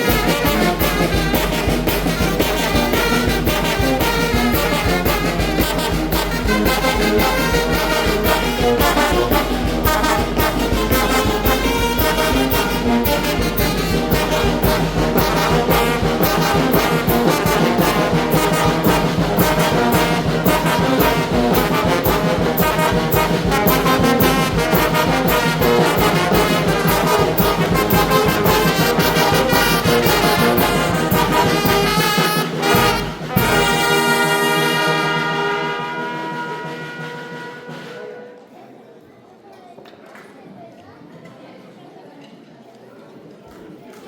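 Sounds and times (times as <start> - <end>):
steady drum beat: 0.0 - 38.2
brass band playing: 0.0 - 38.6
trumpets and trombones: 0.0 - 38.6.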